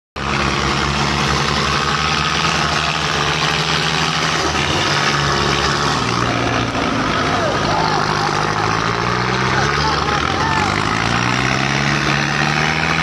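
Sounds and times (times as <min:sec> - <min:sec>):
tractor diesel engine running: 0:00.2 - 0:13.0.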